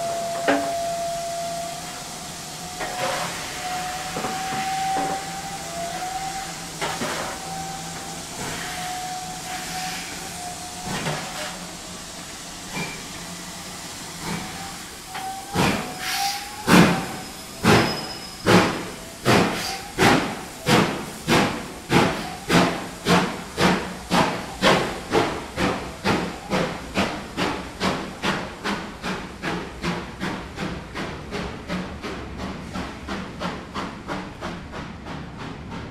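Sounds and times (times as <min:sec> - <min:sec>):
steam hissing: 0:00.0 - 0:35.9
steam locomotive exhaust chuffs: 0:00.0 - 0:35.9.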